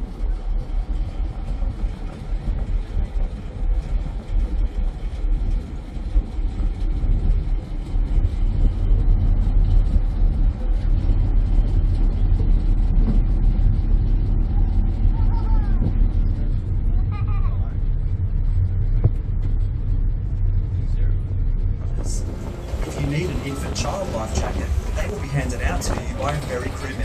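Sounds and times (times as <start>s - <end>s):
ferry engine rumble: 0.0s - 27.0s
wind buffeting microphone: 0.0s - 27.0s.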